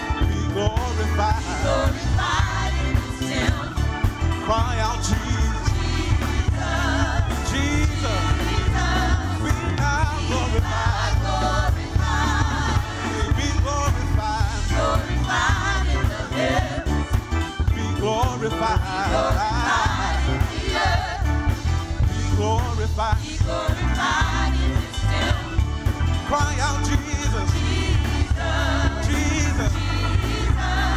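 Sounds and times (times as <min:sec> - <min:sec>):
gospel singers with band: 0:00.0 - 0:30.9
heavy bass: 0:00.0 - 0:30.9.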